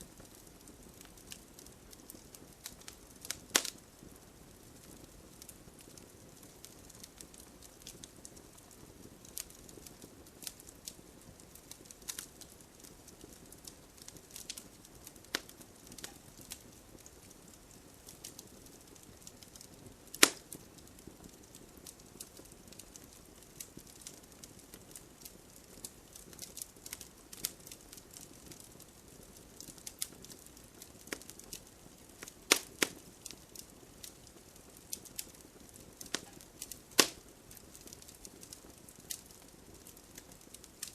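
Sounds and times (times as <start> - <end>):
campfire hissing: 0.0 - 40.9
wood crackling and popping: 0.0 - 40.9.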